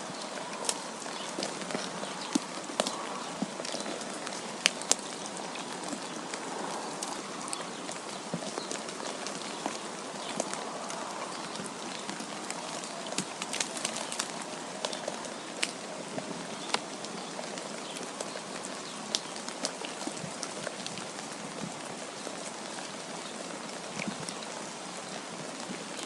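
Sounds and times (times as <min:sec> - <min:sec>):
snow ticking on surface: 0:00.0 - 0:26.0.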